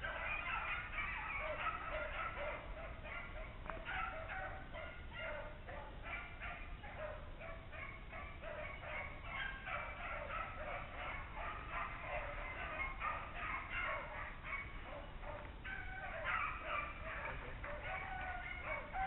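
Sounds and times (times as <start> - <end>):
dogs baying: 0.0 - 19.0.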